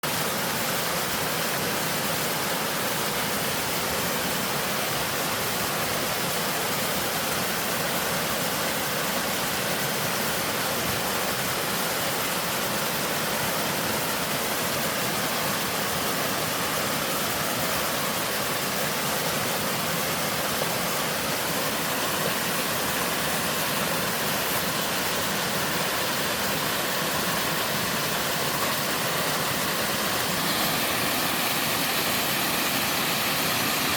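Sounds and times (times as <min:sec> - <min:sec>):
waterfall rushing over rock: 0:00.0 - 0:33.9.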